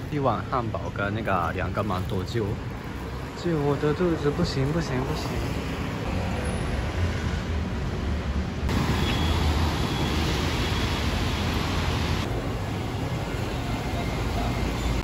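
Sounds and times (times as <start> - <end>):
cars and scooters passing on wet road: 1.8 - 15.0.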